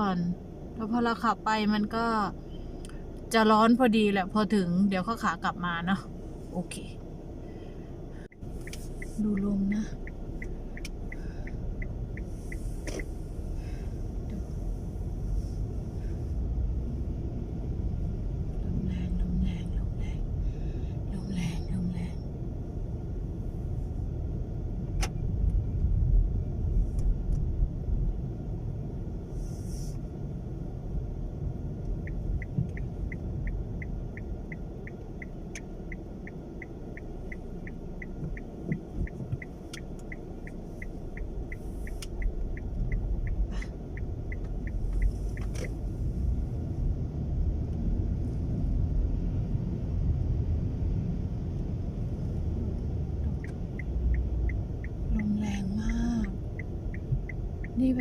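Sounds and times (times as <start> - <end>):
road noise in car cabin: 0.0 - 58.0
turn signal ticking: 0.0 - 58.0
wind buffeting car: 0.0 - 58.0.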